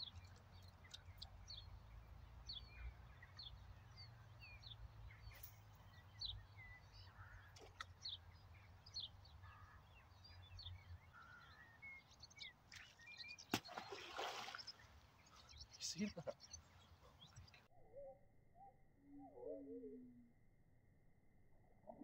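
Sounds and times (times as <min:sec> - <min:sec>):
birds chirping: 0:00.0 - 0:17.7.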